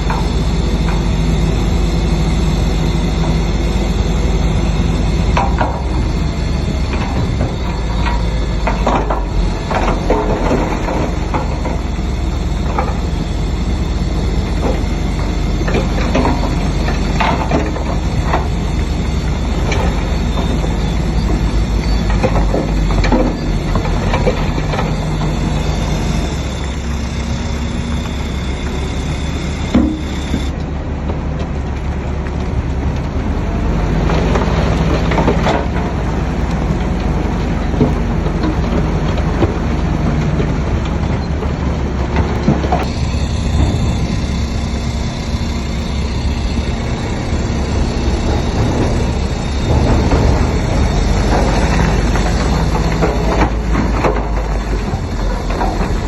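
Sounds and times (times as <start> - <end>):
steel tracks clanking and squeaking: 0.0 - 31.8, 32.4 - 56.0
deep diesel engine: 0.0 - 56.0.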